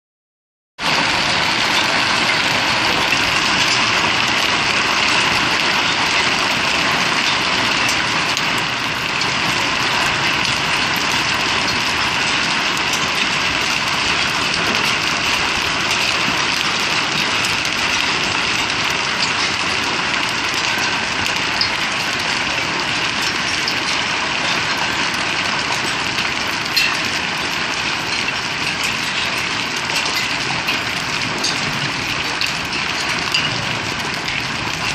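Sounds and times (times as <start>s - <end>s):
hailstones clattering: 0.8s - 34.9s
sharp ticks of hailstones: 0.8s - 34.9s.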